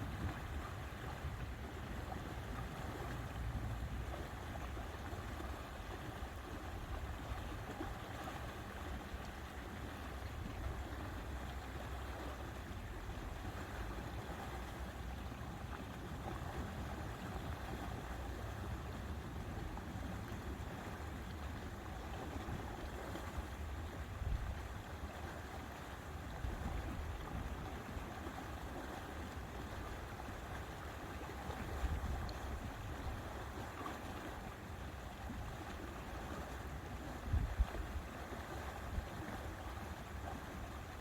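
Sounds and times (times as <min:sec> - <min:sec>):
lake water lapping: 0:00.0 - 0:41.0.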